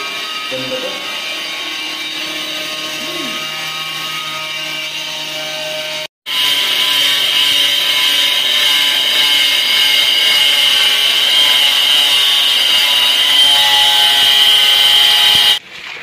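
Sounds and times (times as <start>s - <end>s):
angle grinder cutting tile: 0.0s - 15.6s.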